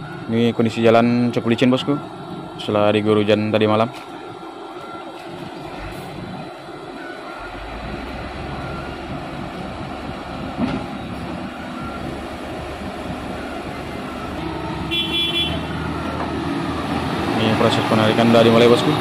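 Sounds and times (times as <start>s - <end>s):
heavy diesel engines under load: 0.0s - 19.0s.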